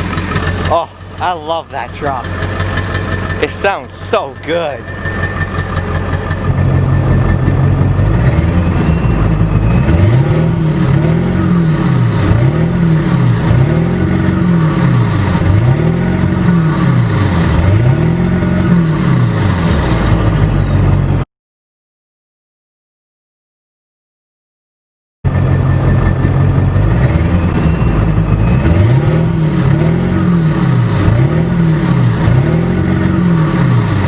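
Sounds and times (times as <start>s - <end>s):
truck engine revving: 0.0s - 21.2s, 25.3s - 34.0s.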